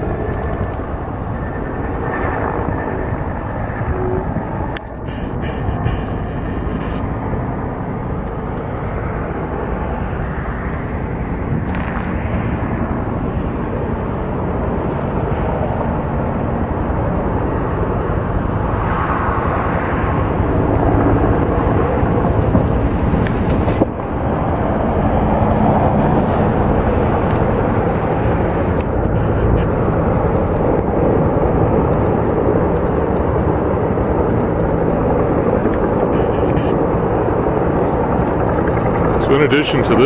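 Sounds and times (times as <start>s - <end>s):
helicopter rotor drone: 0.0s - 40.0s.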